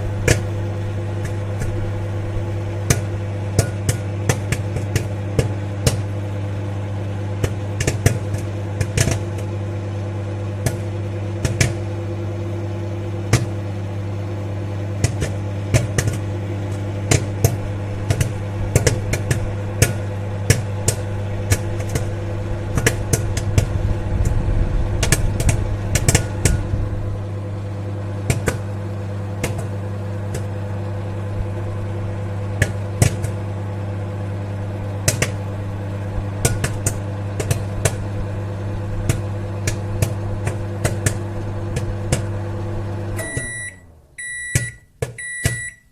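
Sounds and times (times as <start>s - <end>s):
popcorn popping: 0.0s - 12.2s, 13.1s - 14.3s, 14.9s - 33.6s, 34.2s - 43.6s
microwave oven humming: 0.0s - 45.9s.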